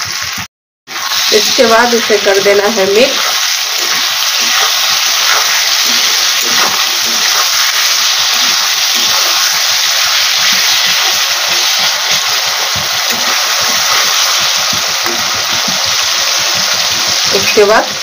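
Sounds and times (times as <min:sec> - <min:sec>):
vegetables sizzling in oil: 0:00.0 - 0:18.0
metal spatula scraping pan: 0:02.7 - 0:17.2.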